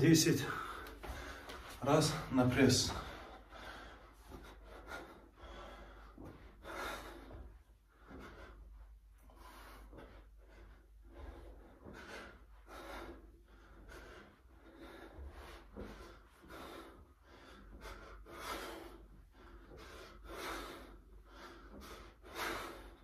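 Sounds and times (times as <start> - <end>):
man breathing hard: 0.2 - 23.0.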